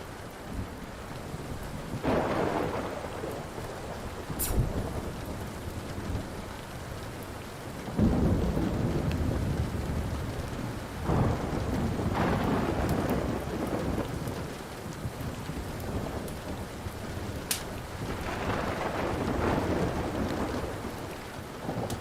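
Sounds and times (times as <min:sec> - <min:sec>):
steady rain: 0:00.0 - 0:22.0
wood fire crackling: 0:00.0 - 0:22.0
rolling thunder: 0:00.5 - 0:06.6, 0:07.9 - 0:22.0.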